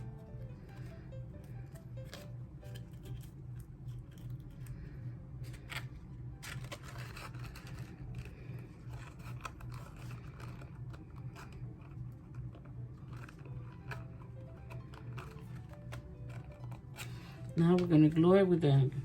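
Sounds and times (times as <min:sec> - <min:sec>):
paper and cardboard handled: 0:00.0 - 0:19.0
steady low hum: 0:00.0 - 0:19.0.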